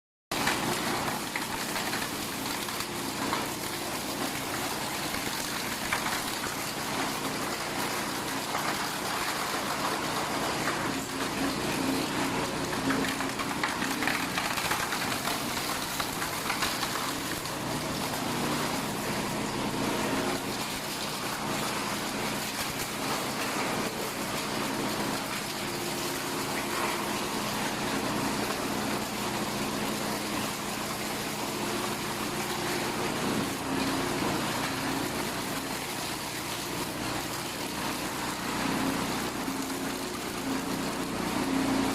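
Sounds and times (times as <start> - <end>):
shredder motor drone: 0.7 - 41.9.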